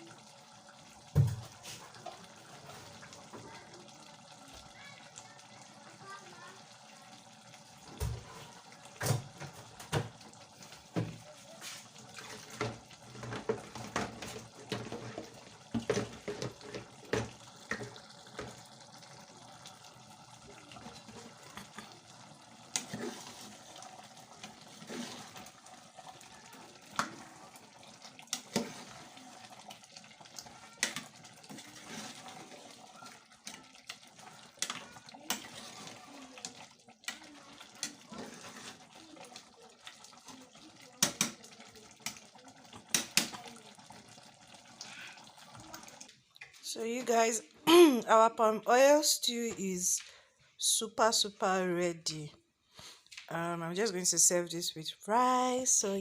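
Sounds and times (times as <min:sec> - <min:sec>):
water running at a sink: 0:00.0 - 0:48.3.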